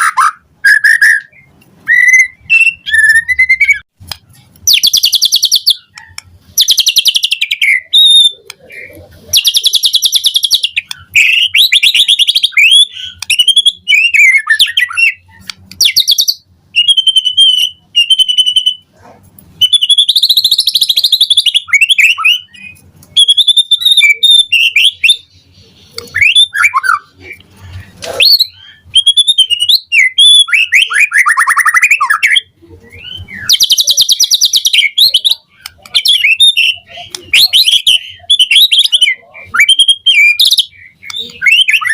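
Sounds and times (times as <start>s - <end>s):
songbird whistled song: 0.0s - 41.9s.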